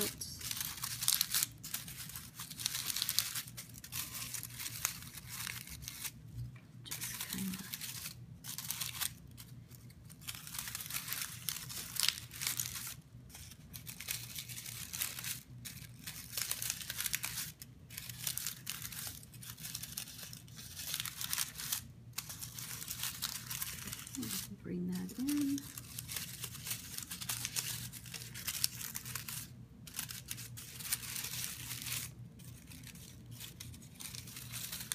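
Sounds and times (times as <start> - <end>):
paper liner crinkling: 0.0 - 34.9.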